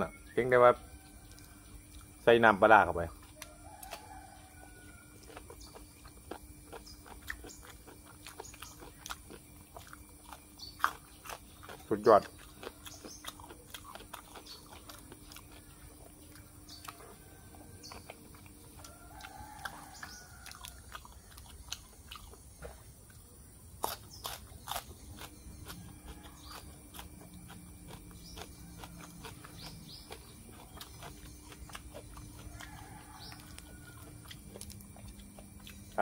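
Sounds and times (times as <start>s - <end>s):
person chewing food: 1.2s - 2.2s, 3.2s - 36.0s.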